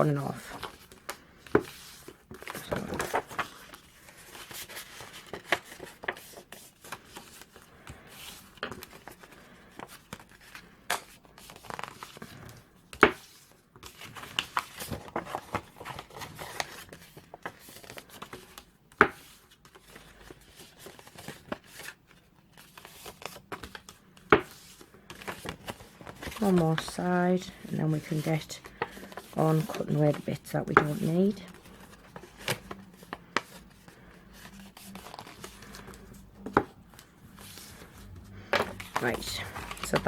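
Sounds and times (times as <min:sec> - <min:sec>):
paper rustling: 0:00.0 - 0:40.0.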